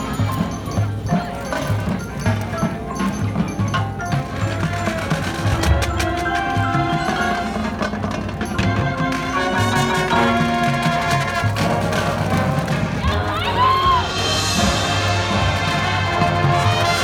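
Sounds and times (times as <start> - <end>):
marching band playing: 0.0 - 17.0
percussion strikes: 0.0 - 17.0.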